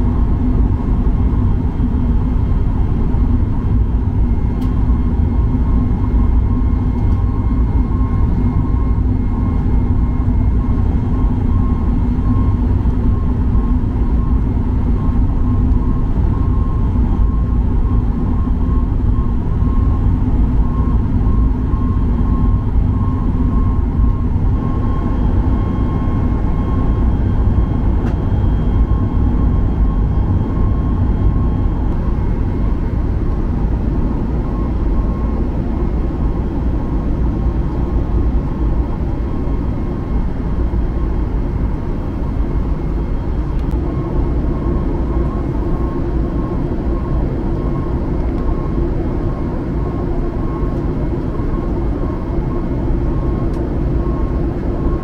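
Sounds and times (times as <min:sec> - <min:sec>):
jet cabin roar: 0:00.0 - 0:55.0
faint high whine: 0:03.8 - 0:55.0.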